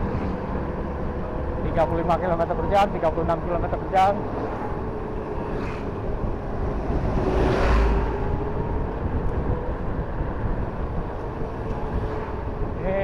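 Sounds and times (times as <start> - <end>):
tyre and street noise: 0.0 - 13.0
wind rushing over microphone: 0.0 - 13.0.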